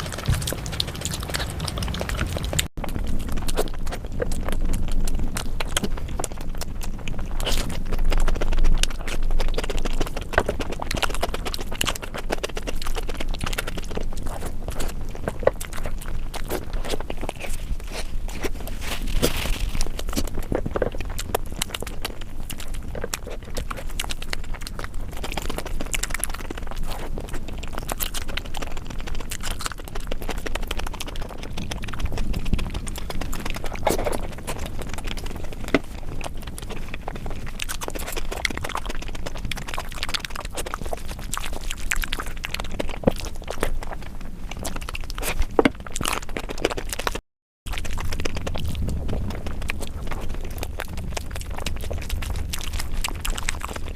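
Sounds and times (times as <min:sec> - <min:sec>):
wet chewing and mouth sounds: 0:00.0 - 0:53.9.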